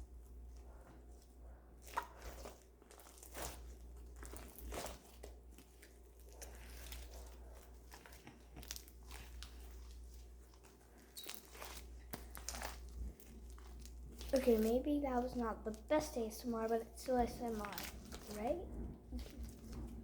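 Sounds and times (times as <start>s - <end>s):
slime squished by hand: 0.6s - 15.9s, 17.1s - 20.0s.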